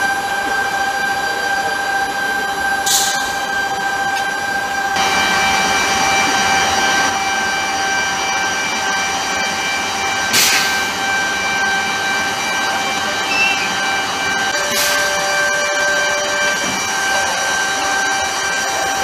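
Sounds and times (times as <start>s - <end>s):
jet turbine engine whine: 0.0s - 19.0s.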